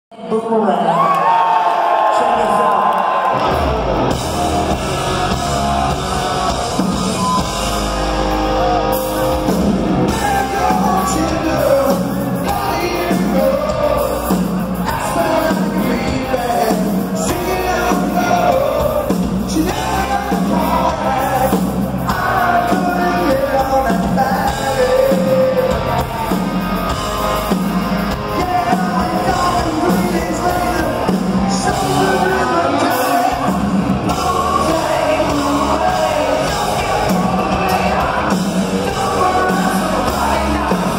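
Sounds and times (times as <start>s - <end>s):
lead singer's voice: 1.9s - 40.9s
distorted electric guitar: 3.3s - 40.9s
drum kit beat: 3.5s - 40.9s.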